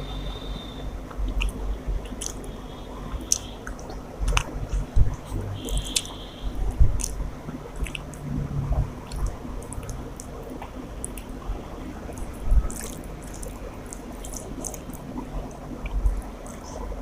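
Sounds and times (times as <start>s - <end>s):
mouth smacking clicks: 1.1s - 8.3s, 9.1s - 11.4s, 12.2s - 16.8s
chewing food: 1.1s - 17.0s.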